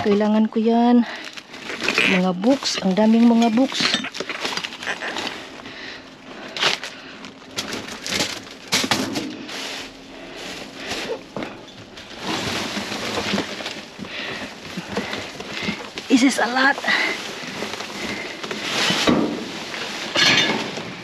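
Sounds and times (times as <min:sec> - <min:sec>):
rummaging through a dumpster: 0:00.0 - 0:21.0.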